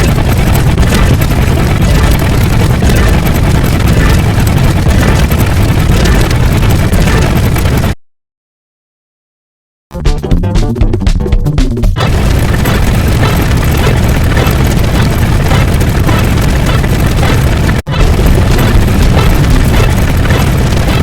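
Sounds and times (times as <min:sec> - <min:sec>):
deep explosion-like rumbling: 0:00.0 - 0:08.0, 0:12.0 - 0:21.0.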